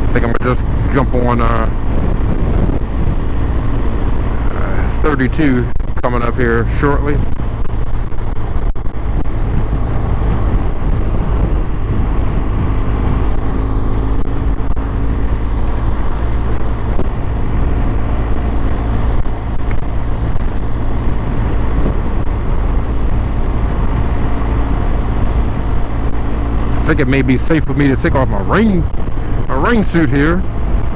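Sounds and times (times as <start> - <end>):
motorcycle engine running: 0.0 - 30.9
wind and road noise: 0.0 - 30.9.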